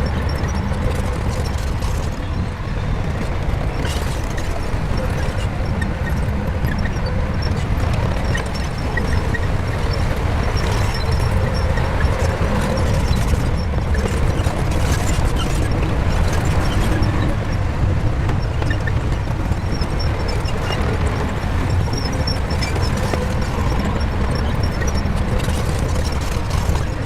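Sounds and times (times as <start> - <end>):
bulldozer diesel engine rumble: 0.0 - 27.0.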